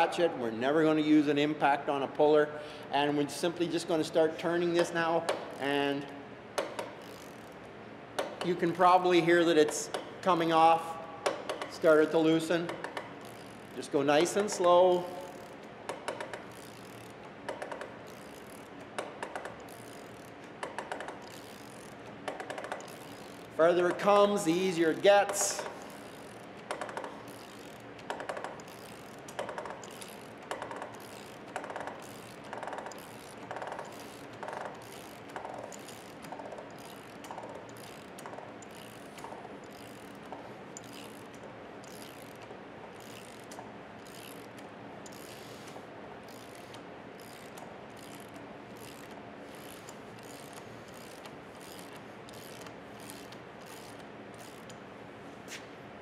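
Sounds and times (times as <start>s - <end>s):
hand ratchet clicking: 3.8s - 54.9s.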